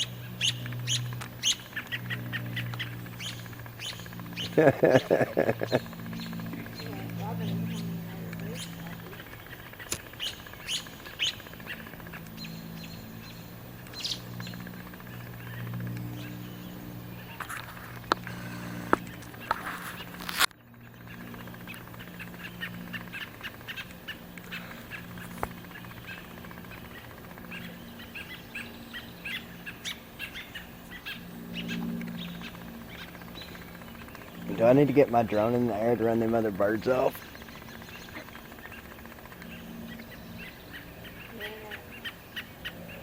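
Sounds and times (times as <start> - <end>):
bird giving sharp calls: 0.0 - 4.7, 5.4 - 17.4, 20.9 - 43.0
steady low hum: 0.0 - 43.0.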